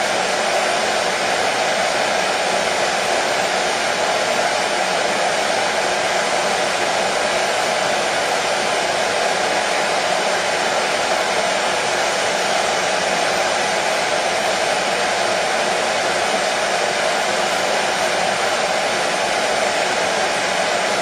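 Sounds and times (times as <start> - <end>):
hair dryer whirring: 0.0 - 21.0.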